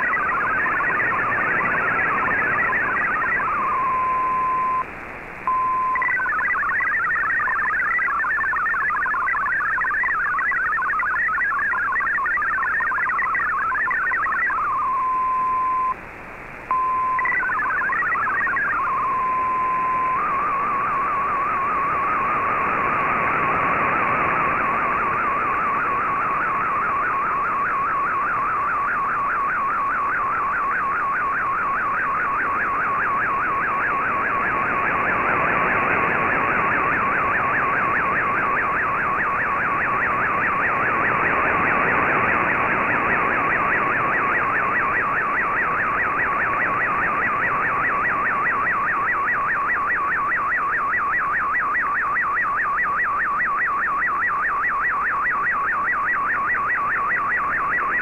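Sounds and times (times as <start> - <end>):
fast continuous warble: 0.0 - 4.8, 5.8 - 14.8, 17.0 - 58.0
shortwave static hiss: 0.0 - 58.0.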